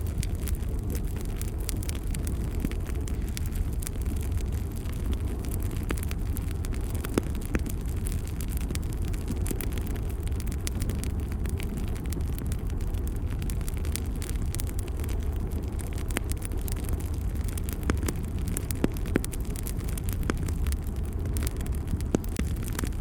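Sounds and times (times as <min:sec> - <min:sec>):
fire rumbling: 0:00.0 - 0:23.0
wood fire crackling and popping: 0:00.0 - 0:23.0.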